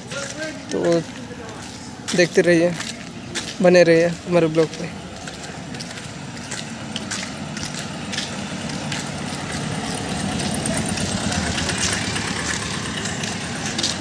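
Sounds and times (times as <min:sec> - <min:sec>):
van engine passing by: 0:00.0 - 0:14.0.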